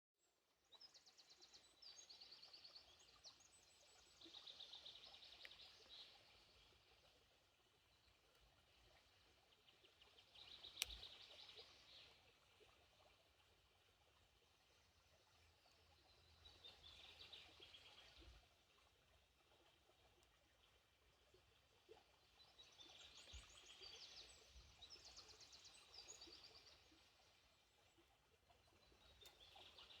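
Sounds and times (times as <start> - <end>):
songbird chirps and trills: 0.7 - 13.2, 14.4 - 30.0.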